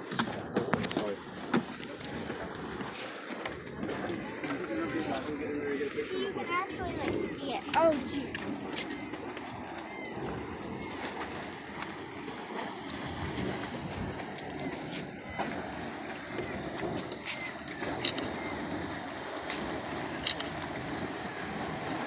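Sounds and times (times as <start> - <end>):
hot spring water churning: 0.0 - 22.0.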